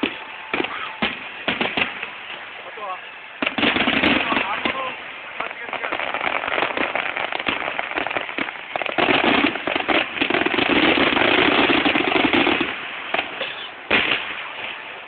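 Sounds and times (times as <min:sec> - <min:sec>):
fireworks crackling and popping: 0:00.0 - 0:15.0.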